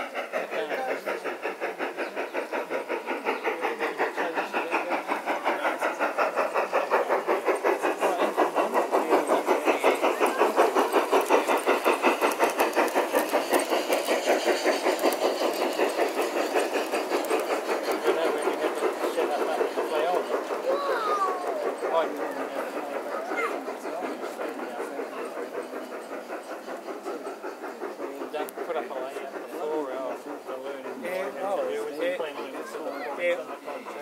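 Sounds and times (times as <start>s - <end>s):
model steam locomotive chuffing: 0.0s - 34.0s
steam hiss: 0.0s - 34.0s.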